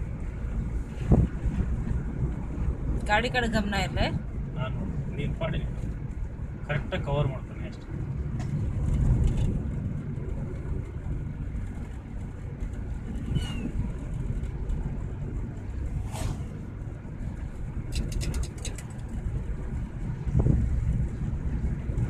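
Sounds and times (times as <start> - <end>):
car engine and tyres rumble: 0.0 - 22.0.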